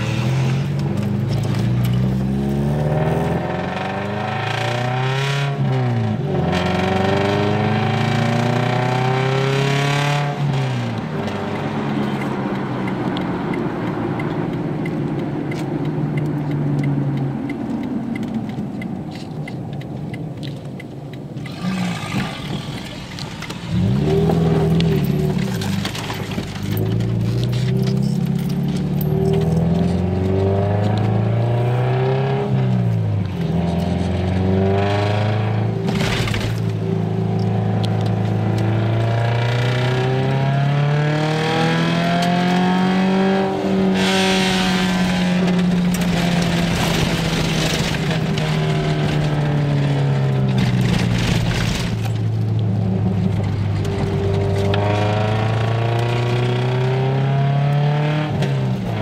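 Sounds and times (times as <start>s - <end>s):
car engine revving: 0.0s - 19.3s, 21.4s - 59.0s.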